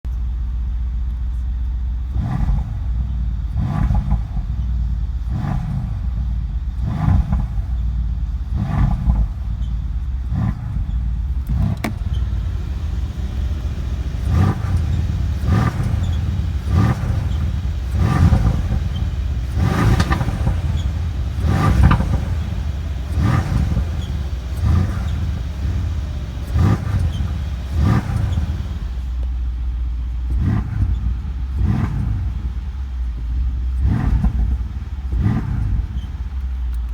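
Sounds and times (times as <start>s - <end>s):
car engine running: 0.0s - 36.9s
exhaust flaps squeaking: 2.3s - 36.9s.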